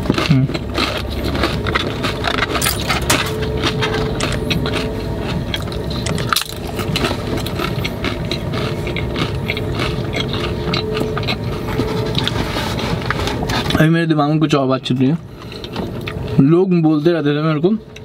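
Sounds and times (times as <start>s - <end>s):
chewing crisp food: 0.0s - 13.9s, 14.9s - 16.5s.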